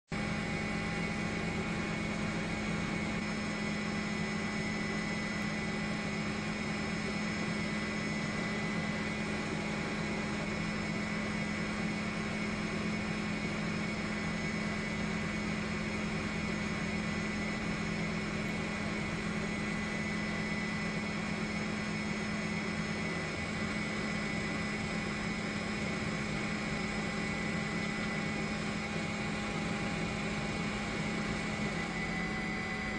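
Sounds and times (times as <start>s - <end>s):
aircraft engine drone: 0.2s - 32.9s.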